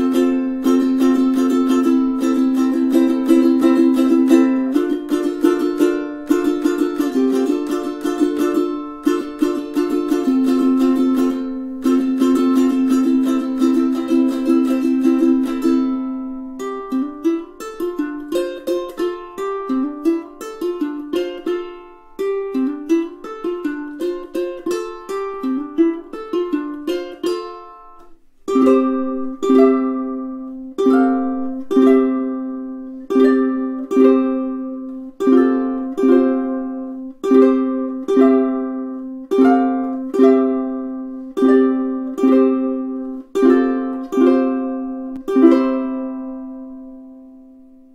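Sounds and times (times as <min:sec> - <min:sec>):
ukulele chords strummed: 0:00.0 - 0:47.9
ukulele fingerpicked notes: 0:00.0 - 0:47.9.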